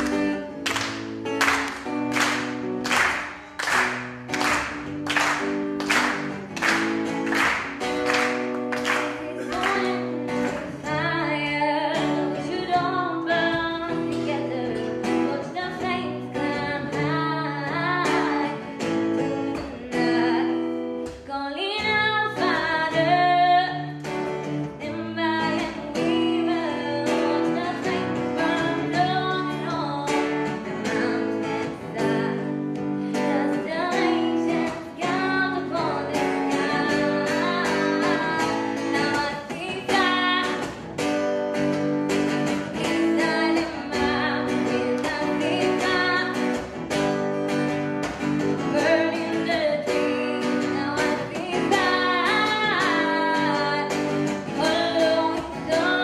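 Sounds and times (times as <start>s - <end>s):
acoustic guitar strumming: 0.0s - 56.0s
woman singing: 8.2s - 41.1s, 42.3s - 47.0s, 48.2s - 56.0s.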